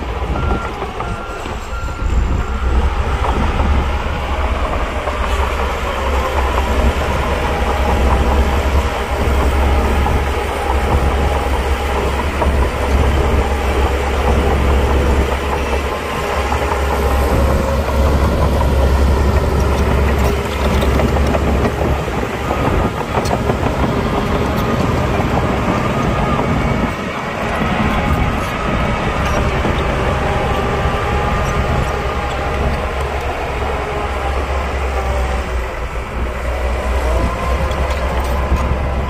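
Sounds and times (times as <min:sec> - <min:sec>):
diesel machinery engine hum: 0:00.0 - 0:39.0.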